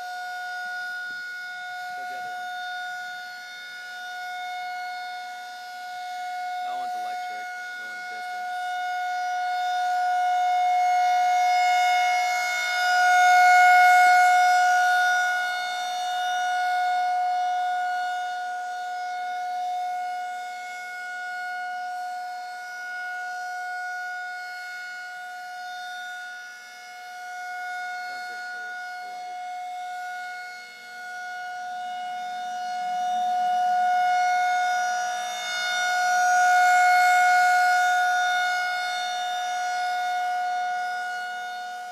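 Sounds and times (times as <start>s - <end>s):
tornado warning siren: 0.0s - 41.9s.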